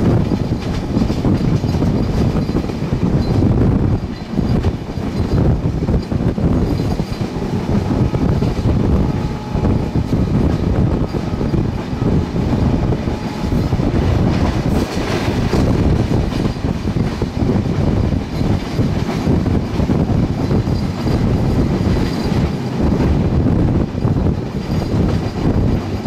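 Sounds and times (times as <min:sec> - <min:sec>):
train rattle: 0:00.0 - 0:26.0
train wheels rumbling on rail: 0:00.0 - 0:26.0.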